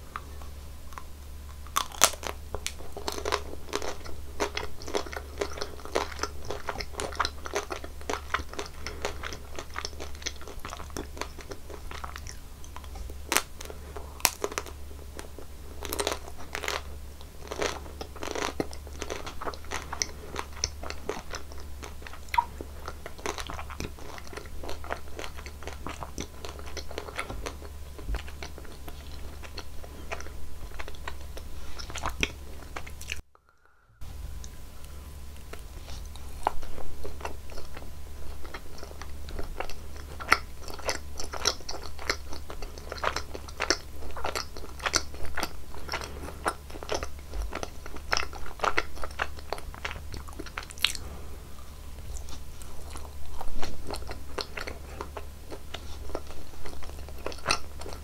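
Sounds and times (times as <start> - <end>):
crunchy chewing: 0.0 - 58.0
teeth cracking hard shell: 0.9 - 33.2, 36.4 - 51.0.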